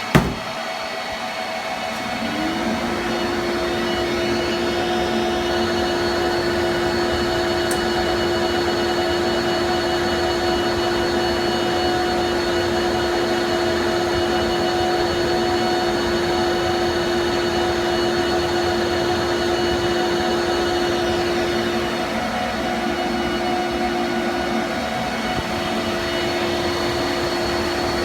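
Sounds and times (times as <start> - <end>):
laser engraving machine whirring: 1.8 - 28.0.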